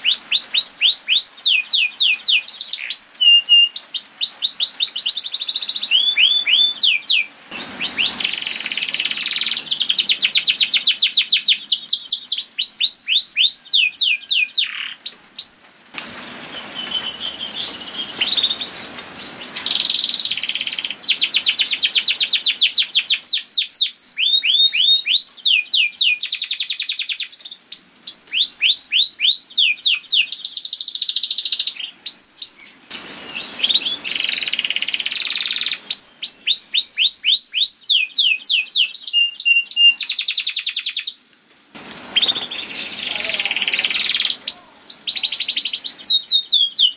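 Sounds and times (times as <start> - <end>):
canary singing trills: 0.0 - 15.6, 16.5 - 41.2, 42.1 - 46.9.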